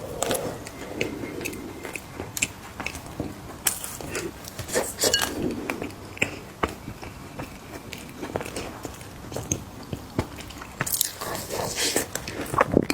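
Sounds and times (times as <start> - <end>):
wet mouth sounds: 0.0 - 12.9.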